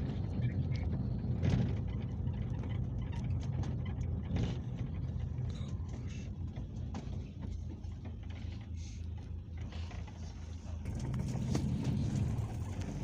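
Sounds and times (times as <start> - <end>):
minibus engine and road rumble: 0.0 - 13.0
rattles and knocks: 0.9 - 13.0.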